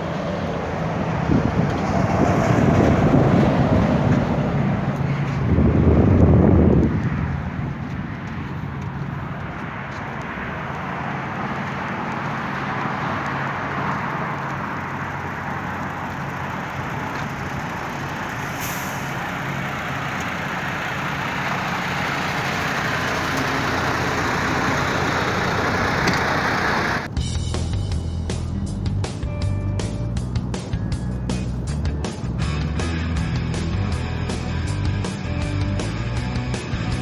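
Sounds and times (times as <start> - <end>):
road noise: 0.0 - 37.0
truck engine hum: 0.0 - 37.0.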